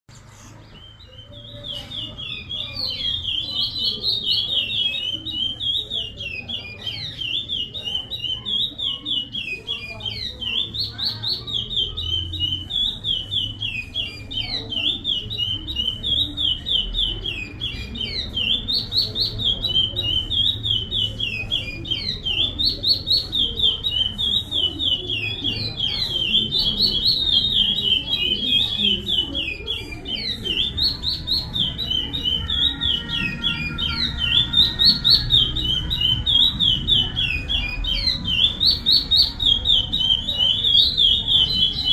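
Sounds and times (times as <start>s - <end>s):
bird singing high whistled notes: 0.2s - 41.9s.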